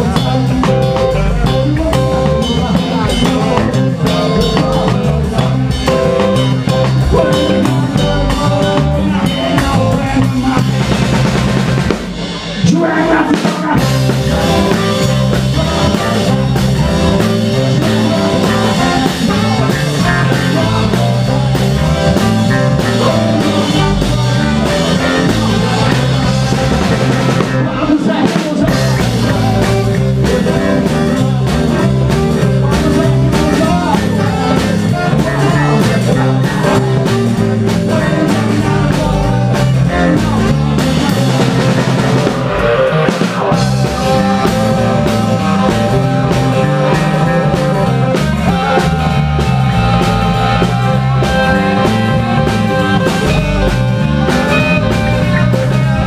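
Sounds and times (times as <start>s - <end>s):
drum kit: 0.0s - 56.0s
electric guitar: 0.0s - 56.0s
person singing: 0.0s - 56.0s
rockabilly band playing live: 0.0s - 56.0s.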